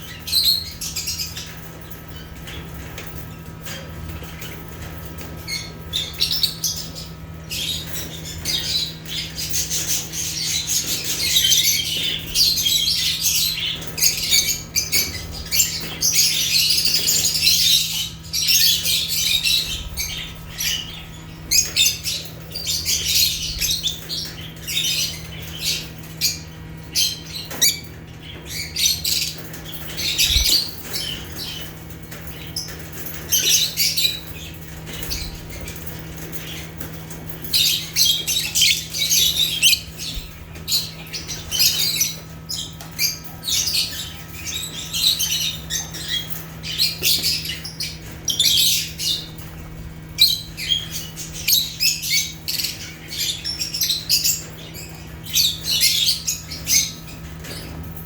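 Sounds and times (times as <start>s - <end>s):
lovebirds chirping and squawking: 0.0s - 58.0s
steady low hum: 0.0s - 58.0s.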